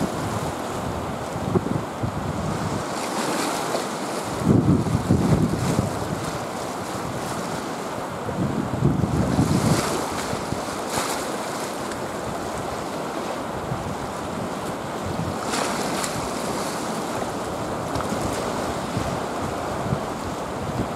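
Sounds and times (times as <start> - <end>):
wind buffeting microphone: 0.0 - 2.9, 4.3 - 11.1, 13.5 - 20.9
sea surf breaking on rocks: 0.0 - 20.9.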